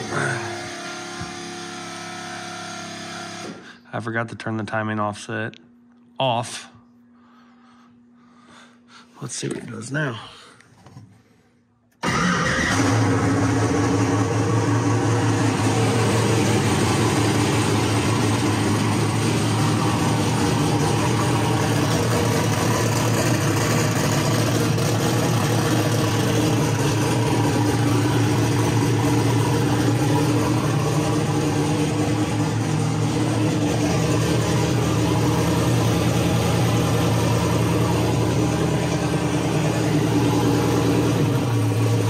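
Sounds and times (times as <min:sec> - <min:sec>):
engine starting and idling: 0:00.0 - 0:03.8, 0:12.0 - 0:42.0.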